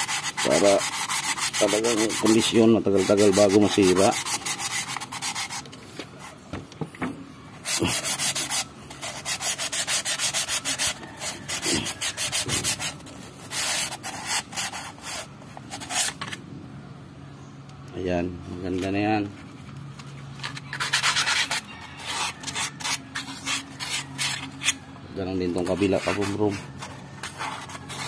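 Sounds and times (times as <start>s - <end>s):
sandpaper scratching metal bore: 0.0s - 6.4s, 7.6s - 16.4s, 20.4s - 28.0s.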